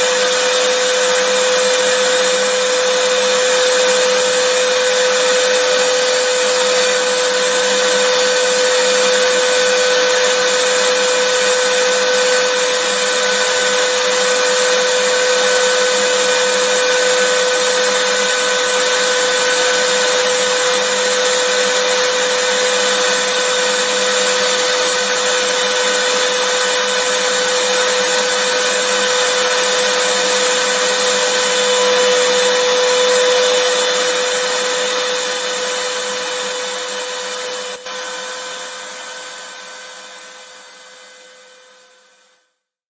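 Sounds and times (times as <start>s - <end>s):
vacuum cleaner motor running: 0.0s - 42.4s.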